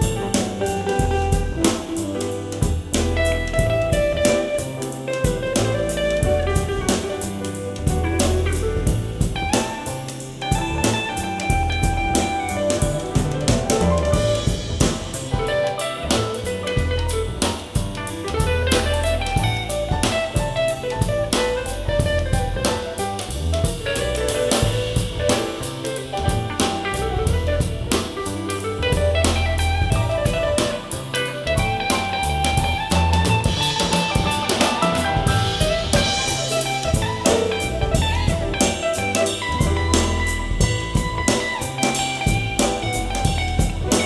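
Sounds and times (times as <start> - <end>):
instrumental soul-jazz music: 0.0 - 44.0.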